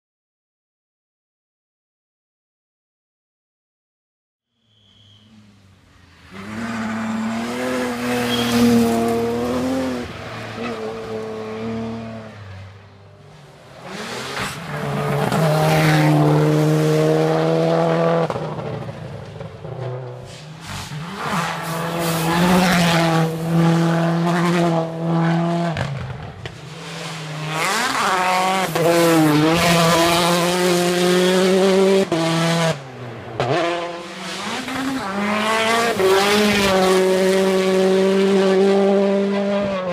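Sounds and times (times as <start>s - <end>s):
rally car engines revving past: 5.0s - 39.9s.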